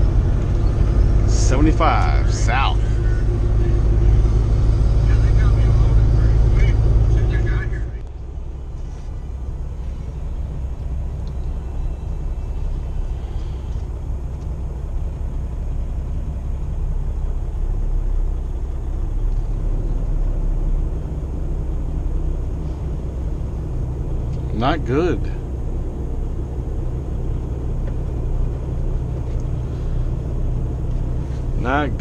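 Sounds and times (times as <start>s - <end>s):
truck engine and road rumble: 0.0s - 32.0s.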